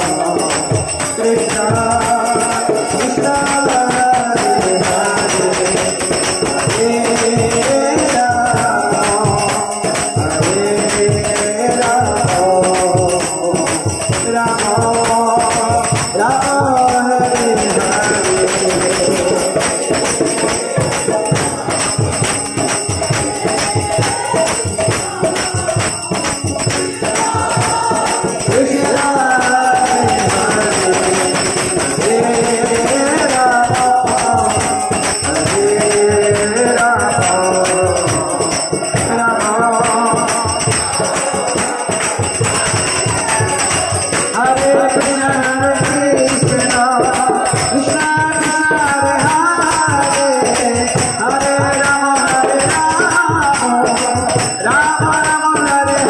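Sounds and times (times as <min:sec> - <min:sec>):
jingling percussion: 0:00.0 - 0:56.0
person singing a melody: 0:00.0 - 0:56.0.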